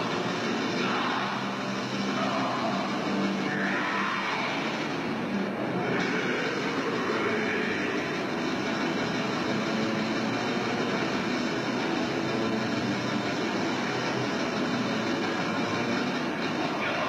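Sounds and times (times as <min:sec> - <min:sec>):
distorted electric guitar: 0:00.0 - 0:17.0.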